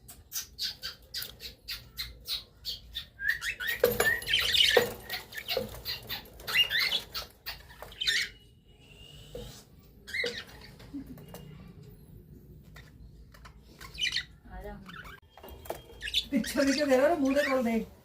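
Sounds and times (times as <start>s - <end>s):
budgerigars chirping and squawking: 0.1s - 11.7s, 12.6s - 17.8s.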